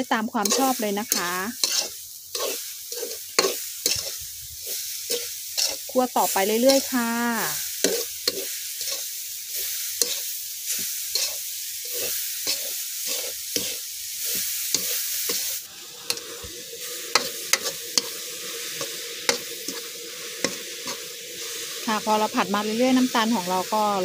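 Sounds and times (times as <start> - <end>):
food sizzling in a wok: 0.0 - 24.0
metal spatula scraping wok: 0.0 - 24.0.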